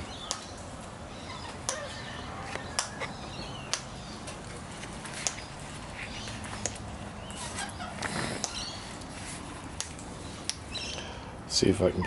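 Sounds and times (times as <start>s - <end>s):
sharp clicks of cockatoos feeding: 0.0s - 0.7s, 1.3s - 9.1s, 9.8s - 11.2s.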